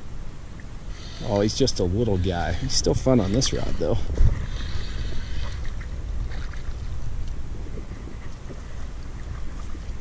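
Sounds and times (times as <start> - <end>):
wind rumble on microphone: 0.0 - 10.0
faint water splashes: 0.4 - 10.0.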